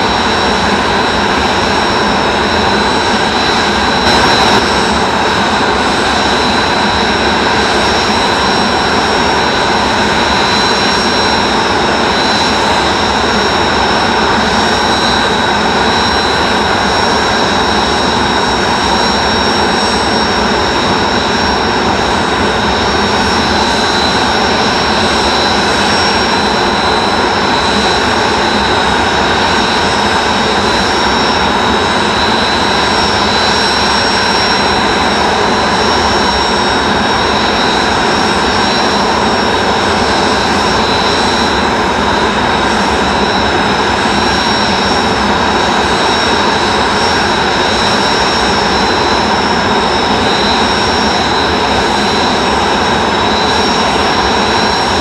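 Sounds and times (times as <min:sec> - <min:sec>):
high-pitched engine whine: 0:00.0 - 0:55.0
jet engine roar: 0:00.0 - 0:55.0.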